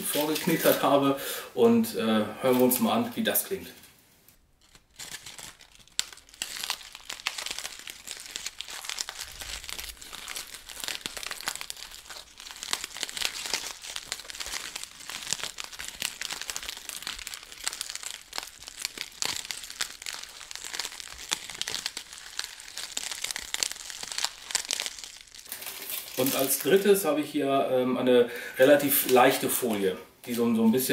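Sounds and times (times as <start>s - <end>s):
aluminium foil crumpling: 0.0s - 1.0s, 2.5s - 2.9s, 4.5s - 27.0s, 28.6s - 29.9s.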